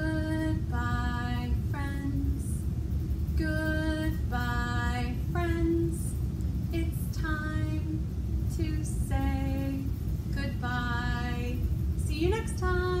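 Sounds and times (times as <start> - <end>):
woman singing unaccompanied: 0.0 - 2.7, 3.3 - 13.0
steady low rumble: 0.0 - 13.0.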